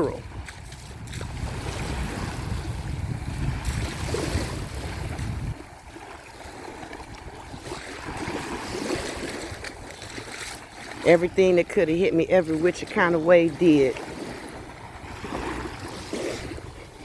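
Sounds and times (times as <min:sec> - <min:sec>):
ocean surf washing on shore: 0:00.0 - 0:17.0
wind buffeting microphone: 0:00.0 - 0:17.0.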